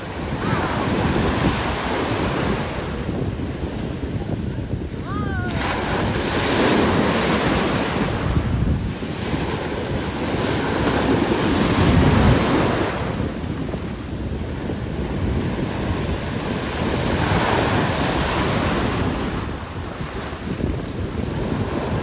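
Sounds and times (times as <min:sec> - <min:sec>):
surf breaking: 0:00.0 - 0:22.0
wind buffeting microphone: 0:00.0 - 0:22.0.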